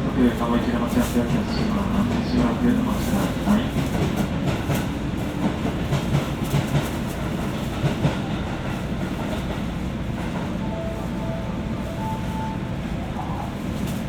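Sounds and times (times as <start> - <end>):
train rail rumble: 0.0 - 14.0.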